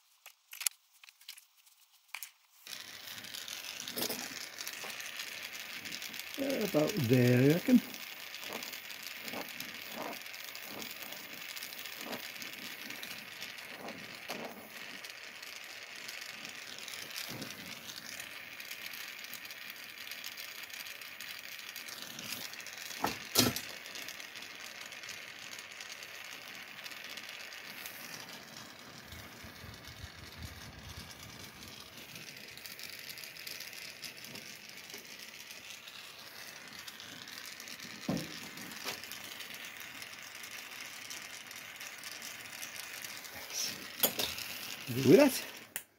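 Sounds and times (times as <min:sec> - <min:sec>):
gas torch flame hissing: 0:02.5 - 0:45.9.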